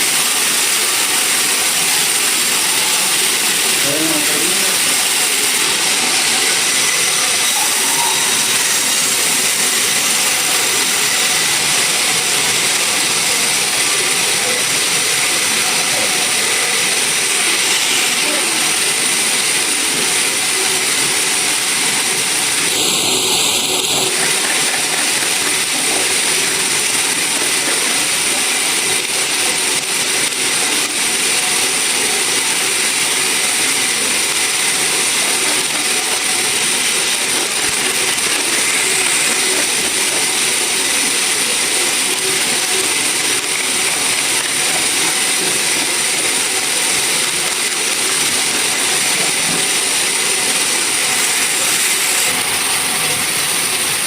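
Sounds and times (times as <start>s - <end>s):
sawmill machinery hissing: 0.0s - 54.0s.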